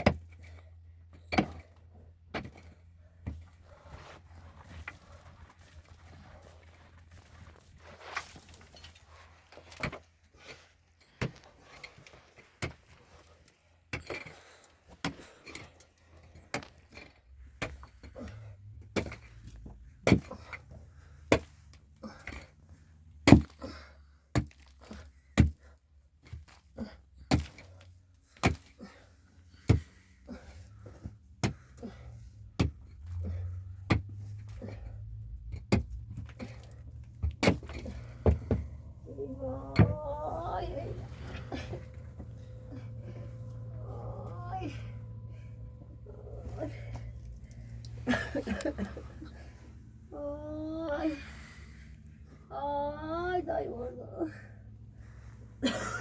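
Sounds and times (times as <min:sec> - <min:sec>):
low steady rumble: 0:00.0 - 0:56.0.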